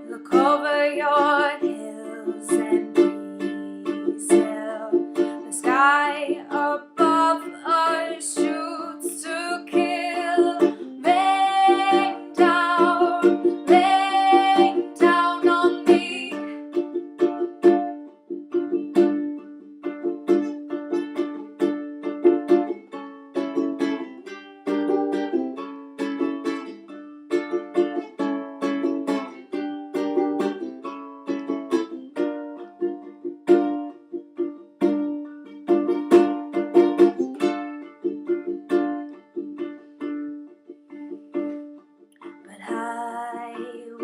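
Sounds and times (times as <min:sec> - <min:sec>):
plucked string instrument: 0:00.0 - 0:44.0.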